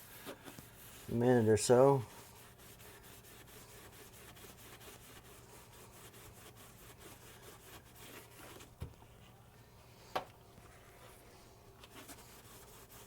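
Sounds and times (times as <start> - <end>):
faint rubbing and handling noise: 0.0 - 13.0.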